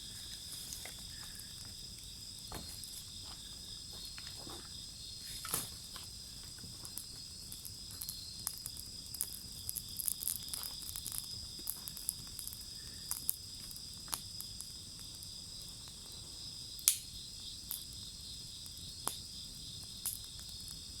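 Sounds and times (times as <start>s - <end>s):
insects trilling: 0.0s - 21.0s
bonfire crackling and popping: 0.1s - 21.0s.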